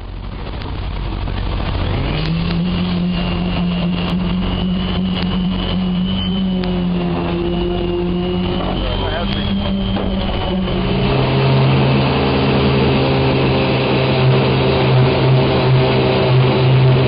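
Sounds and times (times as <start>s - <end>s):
heavy machinery humming: 0.0s - 17.0s.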